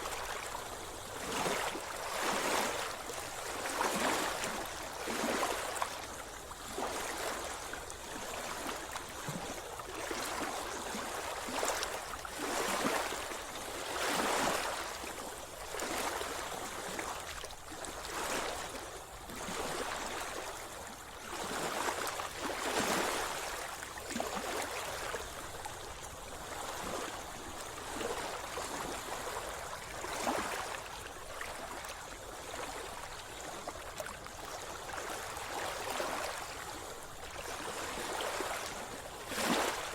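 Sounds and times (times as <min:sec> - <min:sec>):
seawater splashing and sloshing: 0:00.0 - 0:39.9.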